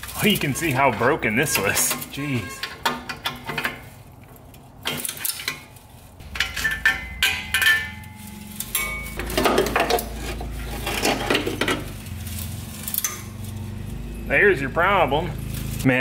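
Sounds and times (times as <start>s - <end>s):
metal exhaust pipes clanking: 0.0s - 16.0s.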